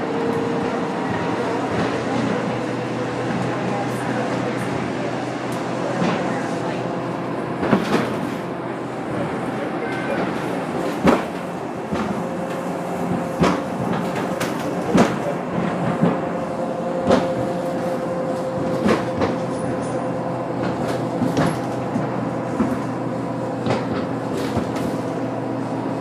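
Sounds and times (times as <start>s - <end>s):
bus engine and road hum: 0.0s - 26.0s.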